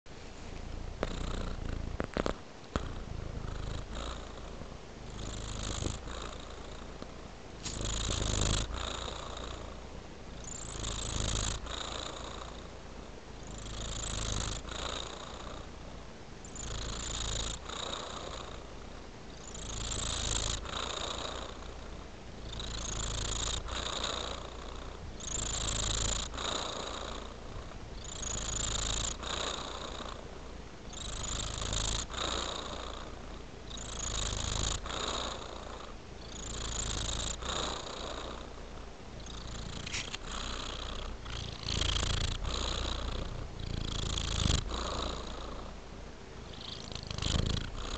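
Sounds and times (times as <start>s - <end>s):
cat purring: 0.2s - 47.9s.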